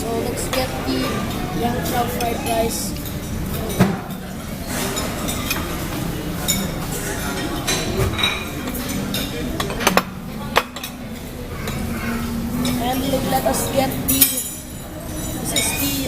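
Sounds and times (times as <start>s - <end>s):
restaurant chatter: 0.0s - 16.0s
cutlery clinking against plates: 0.4s - 16.0s.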